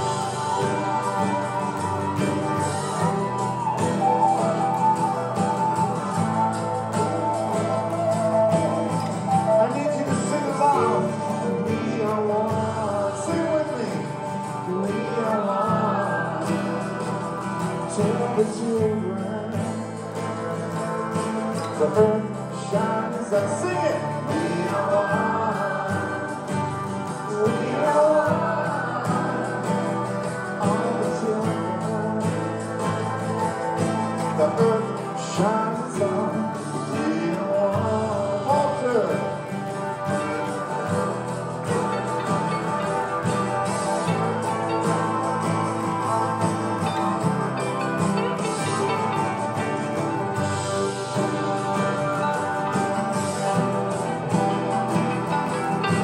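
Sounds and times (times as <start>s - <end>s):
acoustic guitar strumming: 0.0s - 56.0s
country rock band music: 0.0s - 56.0s
sliding melody line: 0.0s - 56.0s.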